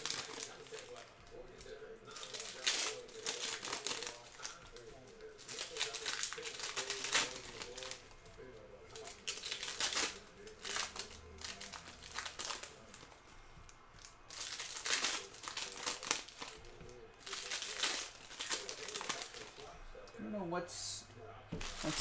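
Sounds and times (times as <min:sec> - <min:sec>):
plastic wrappers crinkling and tearing: 0:00.0 - 0:19.8, 0:21.6 - 0:22.0.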